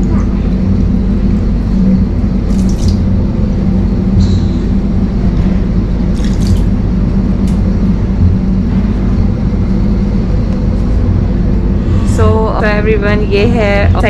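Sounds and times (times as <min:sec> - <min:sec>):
train coach rumble and hum: 0:00.0 - 0:14.0.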